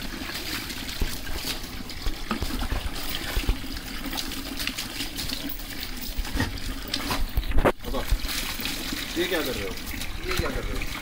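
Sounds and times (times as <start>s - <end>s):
water splashing on concrete: 0.0s - 11.0s.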